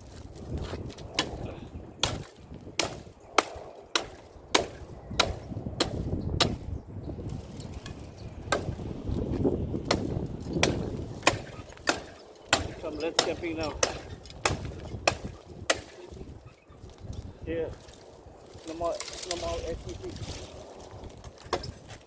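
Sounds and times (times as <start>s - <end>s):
foliage rustling: 0.0s - 6.1s, 7.2s - 22.0s
branches being snipped: 0.0s - 22.0s.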